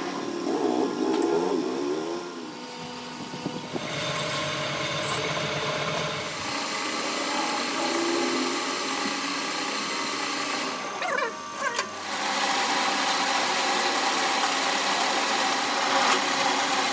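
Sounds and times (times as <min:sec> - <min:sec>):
power tool running on metal: 0:00.0 - 0:16.9.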